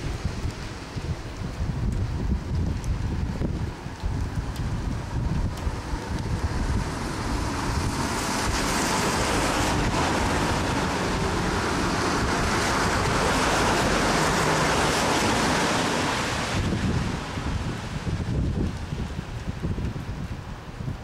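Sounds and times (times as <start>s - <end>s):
heavy rain hissing: 0.0s - 20.9s
wind buffeting microphone: 0.0s - 21.0s.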